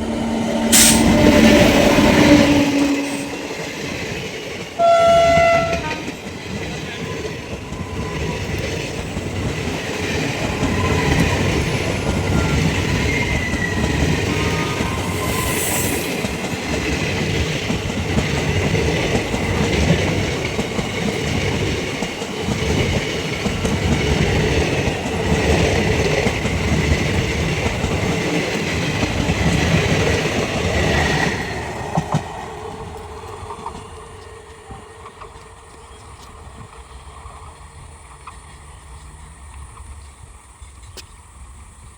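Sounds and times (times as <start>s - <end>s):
train wheels rattling on track: 0.0s - 41.9s.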